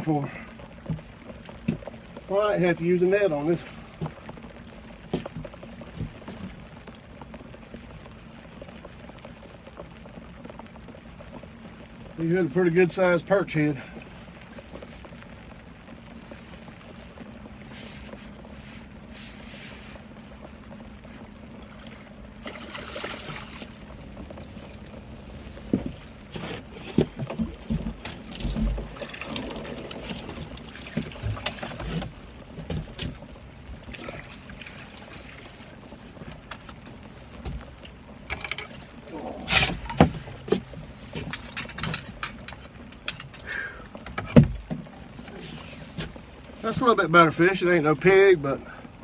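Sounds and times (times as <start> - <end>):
knocks and clunks on boat: 0.0 - 12.6, 13.8 - 47.1
rain: 0.0 - 49.0
trickling water: 0.0 - 49.0.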